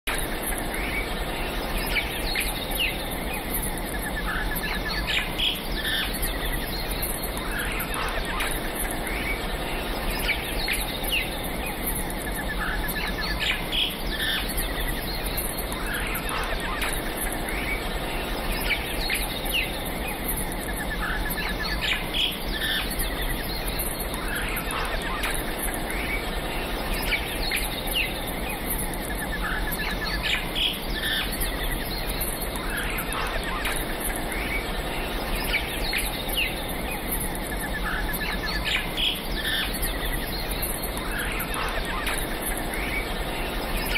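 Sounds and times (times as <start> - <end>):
birds chirping and trilling: 0.1 - 43.9
steady background noise: 0.1 - 43.9.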